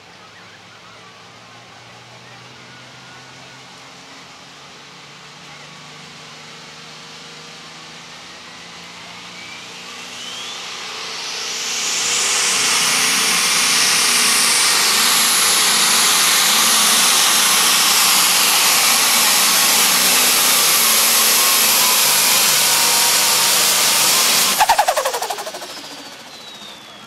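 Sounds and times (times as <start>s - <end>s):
diesel tractor engine at full throttle: 0.8s - 27.0s.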